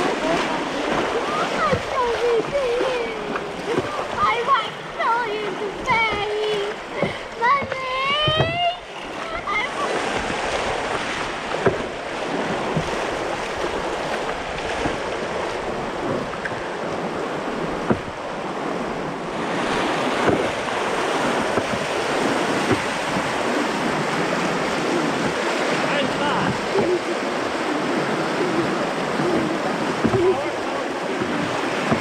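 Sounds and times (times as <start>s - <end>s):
paddle splashes: 0.0s - 32.0s
rushing whitewater: 0.0s - 32.0s
wind on microphone: 5.8s - 32.0s.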